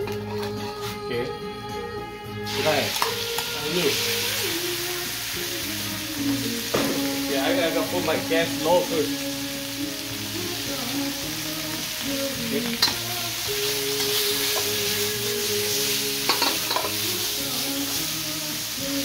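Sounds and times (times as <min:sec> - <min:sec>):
food sizzling in a hot pan: 0:02.4 - 0:19.0.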